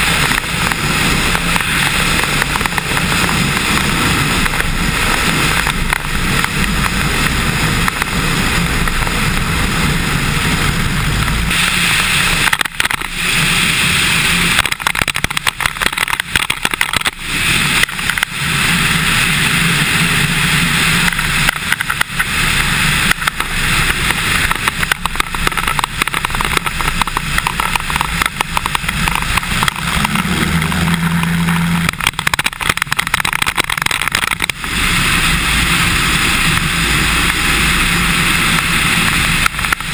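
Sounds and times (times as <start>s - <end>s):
aircraft engine and propeller: 0.0s - 39.9s
wind buffeting microphone: 0.0s - 39.9s.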